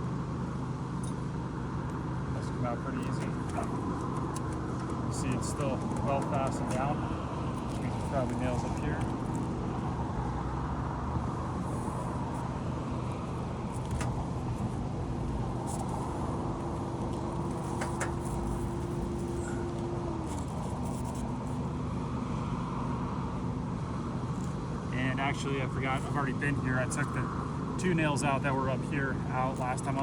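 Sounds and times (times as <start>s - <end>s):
low steady hum: 0.0s - 30.0s
machinery or traffic drone: 0.0s - 30.0s.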